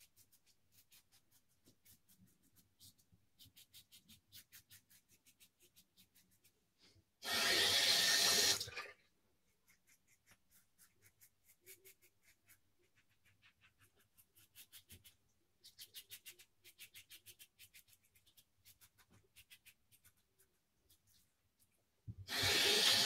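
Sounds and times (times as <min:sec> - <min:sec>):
shaving brush lathering face: 0:00.0 - 0:23.0.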